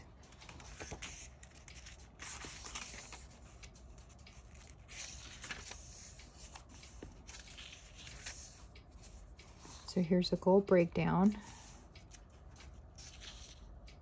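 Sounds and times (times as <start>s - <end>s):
paper pages turning and rustling: 0.0s - 9.9s, 11.4s - 14.0s.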